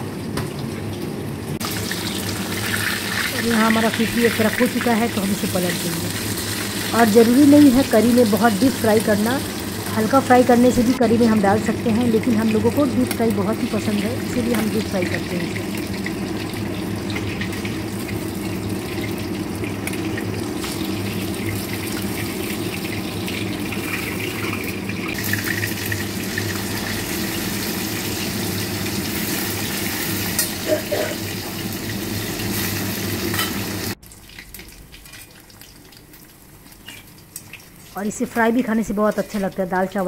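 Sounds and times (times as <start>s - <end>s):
fish sizzling in hot oil: 1.6s - 38.6s.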